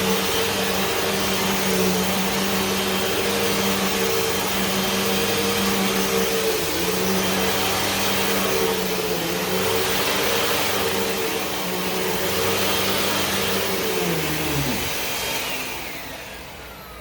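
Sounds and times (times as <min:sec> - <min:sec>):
motor winding down: 0:00.0 - 0:17.0
vacuum cleaner running: 0:00.0 - 0:17.0.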